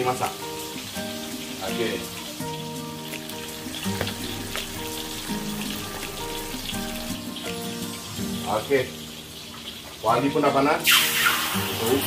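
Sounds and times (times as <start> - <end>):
background music: 0.0 - 12.0
fish deep-frying in oil: 0.0 - 12.0.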